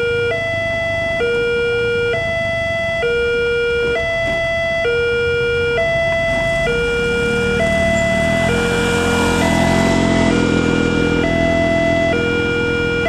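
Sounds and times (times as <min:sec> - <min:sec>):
two-tone crossing alarm: 0:00.0 - 0:13.0.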